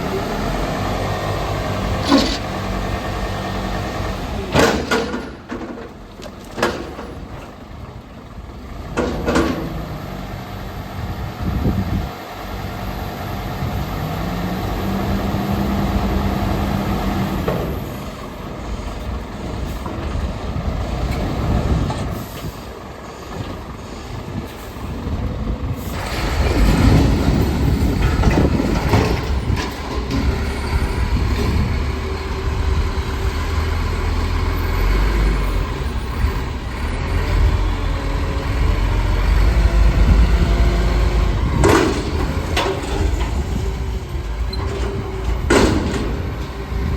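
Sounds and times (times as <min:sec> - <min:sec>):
garbage truck diesel engine: 0:00.0 - 0:46.9.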